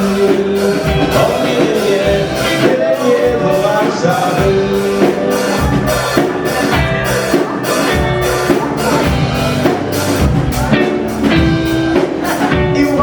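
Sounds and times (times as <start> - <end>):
dance band playing: 0.0 - 13.0
drum kit beat: 0.0 - 13.0
person singing: 0.0 - 13.0.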